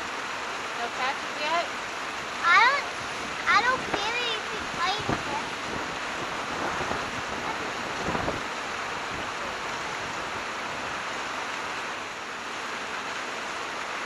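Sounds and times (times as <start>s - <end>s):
water rushing from dam: 0.0s - 14.0s.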